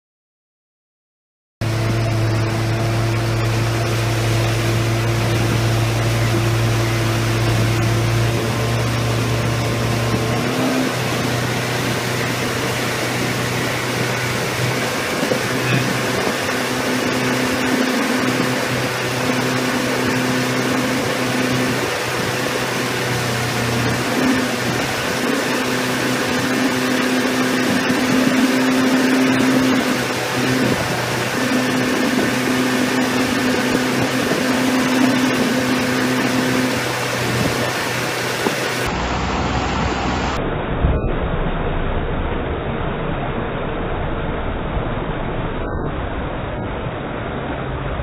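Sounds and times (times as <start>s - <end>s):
boat engine running: 1.6s - 48.0s
rushing water: 1.6s - 48.0s
wind noise: 1.8s - 48.0s.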